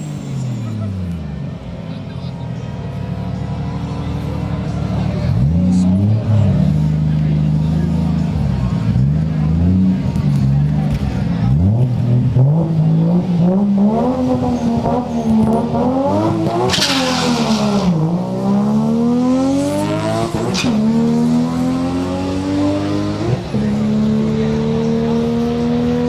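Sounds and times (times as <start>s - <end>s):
drag car engine revving: 2.6s - 26.0s
car rushing past: 2.7s - 26.0s.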